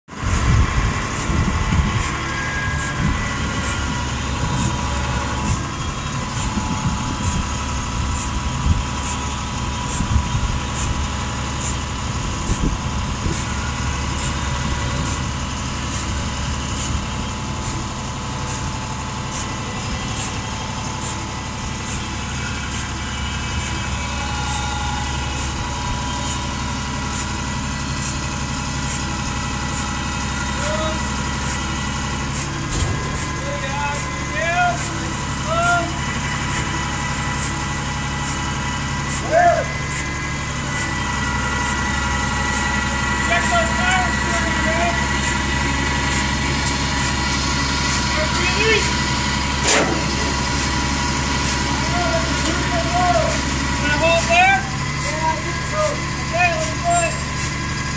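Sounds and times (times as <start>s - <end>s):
truck engine running: 0.0s - 57.9s.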